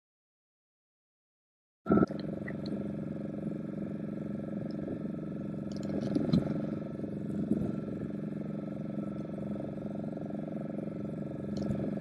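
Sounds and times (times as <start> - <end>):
boat engine droning: 1.9 - 12.0.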